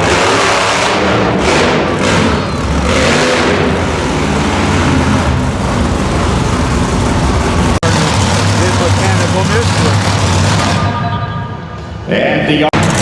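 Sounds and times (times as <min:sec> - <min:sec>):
truck engine revving loudly: 0:00.0 - 0:10.9, 0:12.8 - 0:13.0.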